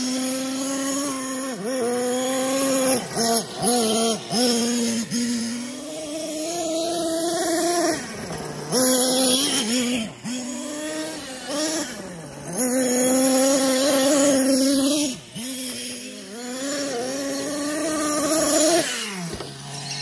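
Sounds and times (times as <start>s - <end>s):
model engine buzzing: 0.0s - 20.0s.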